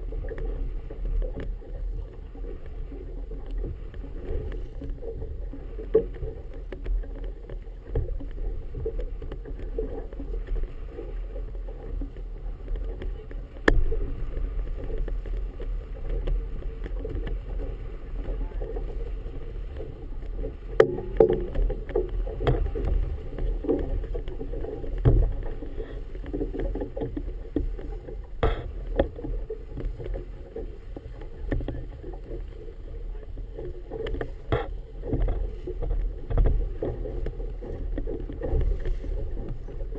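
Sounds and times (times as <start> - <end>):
water slapping against boat hull: 0.0 - 39.9.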